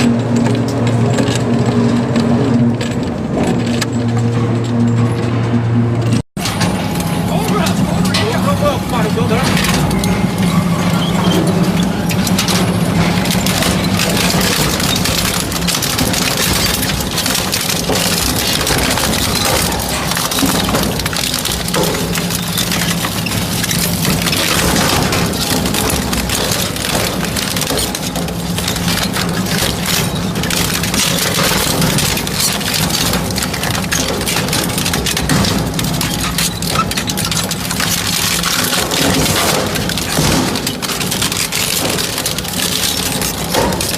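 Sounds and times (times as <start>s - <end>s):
scrap metal crunching: 0.0s - 43.9s.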